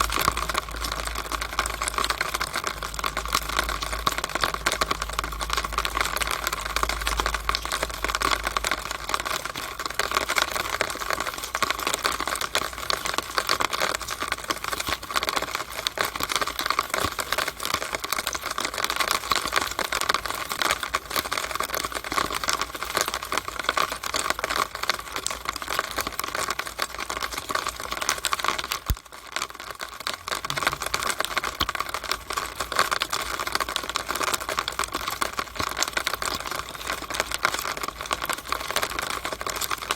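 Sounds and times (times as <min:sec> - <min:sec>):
rainwater dripping in a downspout: 0:00.0 - 0:39.9.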